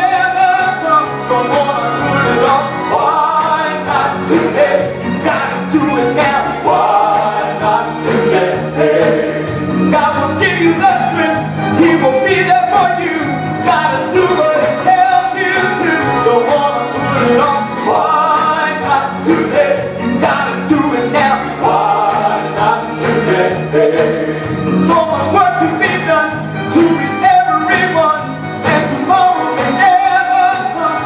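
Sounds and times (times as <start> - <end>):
instrumental backing music: 0.0 - 31.0
person singing: 0.0 - 31.0.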